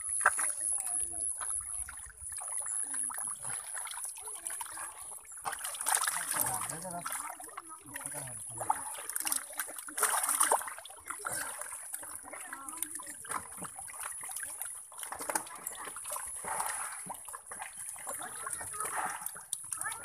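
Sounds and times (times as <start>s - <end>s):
muddy water splashing: 0.0s - 20.0s.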